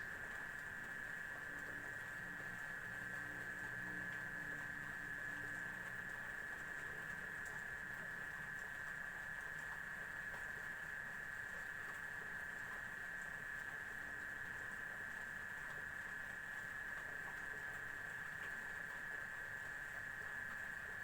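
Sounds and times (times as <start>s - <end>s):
faint ticks: 0.0s - 21.0s.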